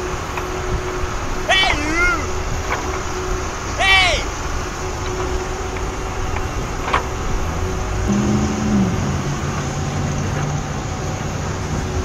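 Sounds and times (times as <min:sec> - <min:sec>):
traffic going by: 0:00.0 - 0:12.0.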